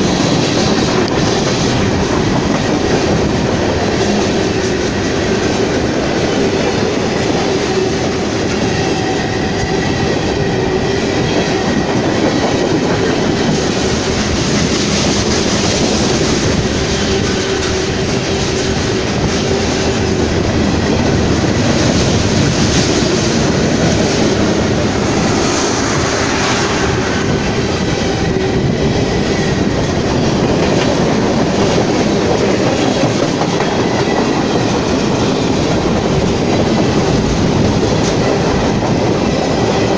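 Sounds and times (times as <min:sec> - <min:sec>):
train cars rolling past: 0:00.0 - 0:39.9.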